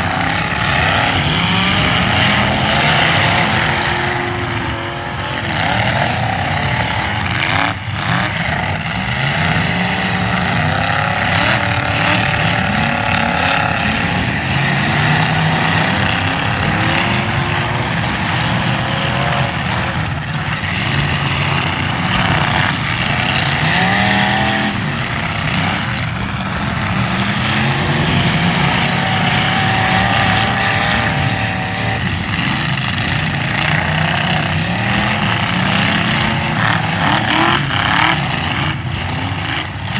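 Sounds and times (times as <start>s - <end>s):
car engines revving hard: 0.0s - 39.9s.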